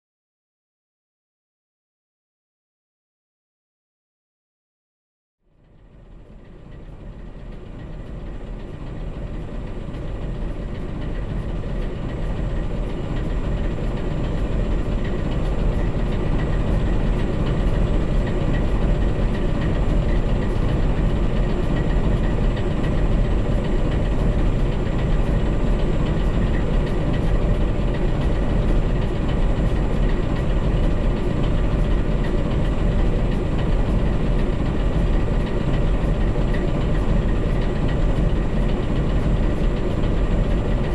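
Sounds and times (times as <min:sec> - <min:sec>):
locomotive engines running: 0:06.1 - 0:40.9.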